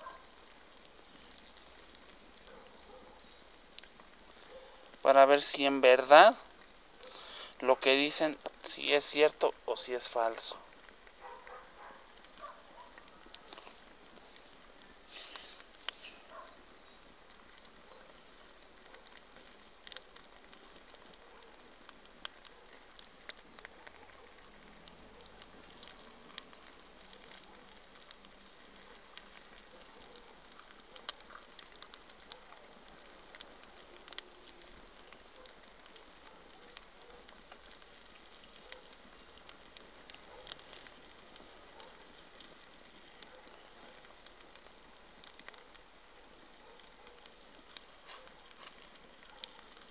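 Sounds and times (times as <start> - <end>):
bonfire pops and snaps: 0.0 - 49.9
fire hissing: 0.0 - 49.9.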